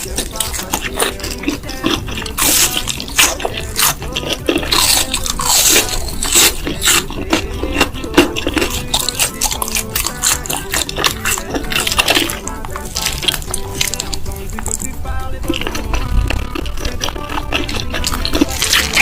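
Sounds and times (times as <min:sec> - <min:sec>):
background music: 0:00.0 - 0:19.0
crunching and chewing food: 0:00.0 - 0:19.0.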